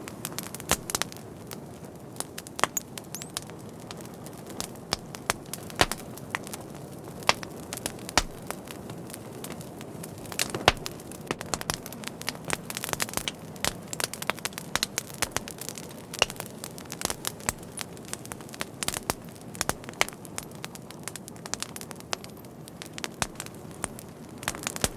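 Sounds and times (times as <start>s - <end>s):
soft hiss of burning: 0.0s - 24.9s
wood fire crackling: 0.0s - 24.9s.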